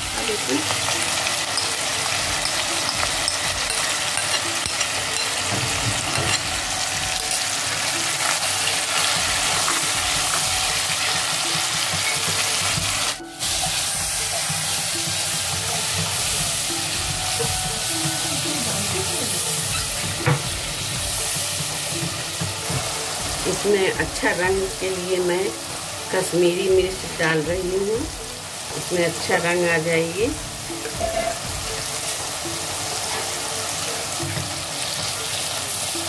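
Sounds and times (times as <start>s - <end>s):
paste sizzling in hot oil: 0.0s - 36.0s.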